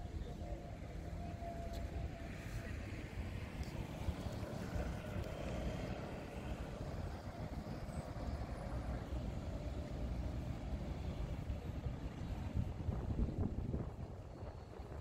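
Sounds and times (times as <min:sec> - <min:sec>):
cars passing on street: 0:00.0 - 0:15.0.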